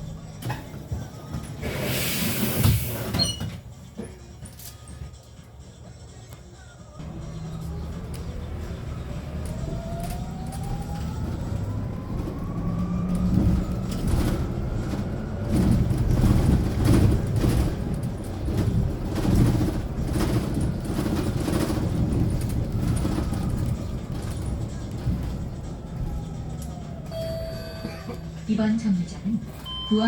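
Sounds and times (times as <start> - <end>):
knocks and rattles of bus body: 0.0 - 4.6, 7.0 - 30.0
road rumble: 0.0 - 30.0.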